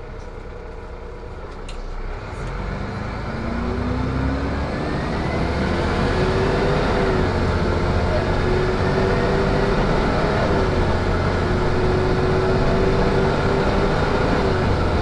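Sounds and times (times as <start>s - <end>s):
bus engine and drivetrain whine: 0.0s - 15.0s.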